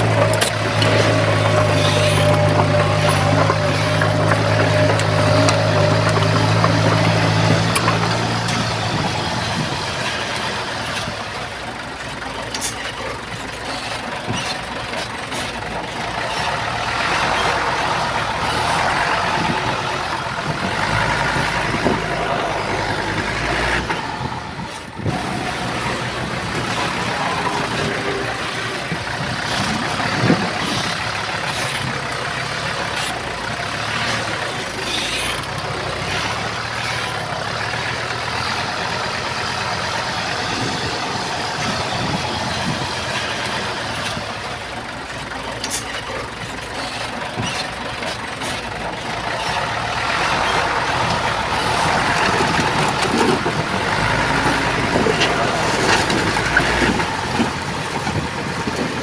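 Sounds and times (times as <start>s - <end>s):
heavy diesel machinery working: 0.0s - 59.0s.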